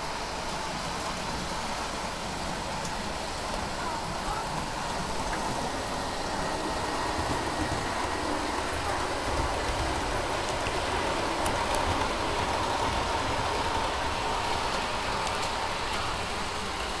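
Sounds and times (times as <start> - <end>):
model train whine: 0.0 - 17.0
wheels rolling on rails: 1.0 - 17.0.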